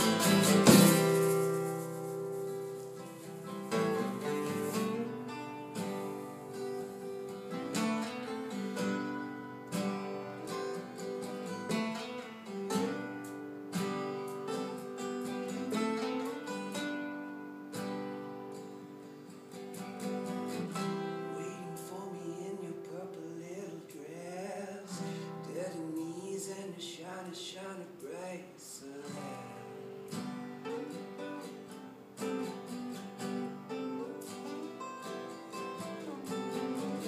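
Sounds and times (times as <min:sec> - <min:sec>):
acoustic guitar strumming: 0:00.0 - 0:37.0.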